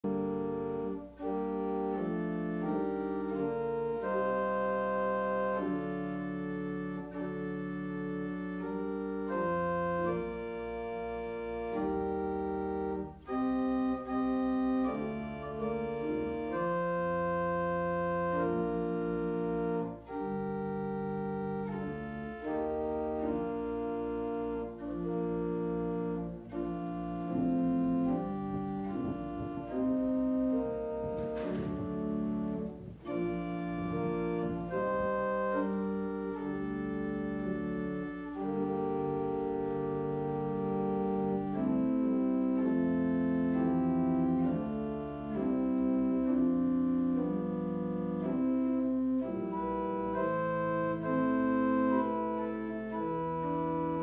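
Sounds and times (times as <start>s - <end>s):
deep organ pedal bass notes: 0.0s - 54.0s
organ playing slow chords: 0.0s - 54.0s.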